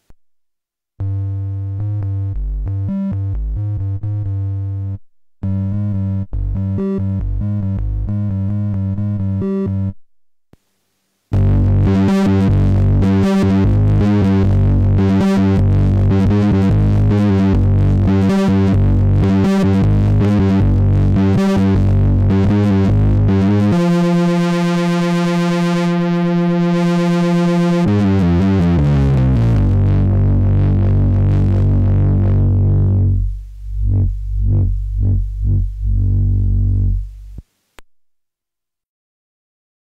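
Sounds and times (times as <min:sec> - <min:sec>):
distorted synthesizer notes: 0:01.0 - 0:10.0, 0:11.3 - 0:37.4.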